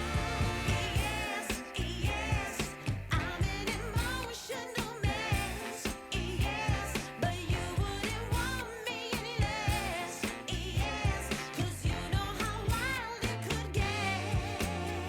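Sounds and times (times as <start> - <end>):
pop music with sung vocal: 0.0 - 15.0.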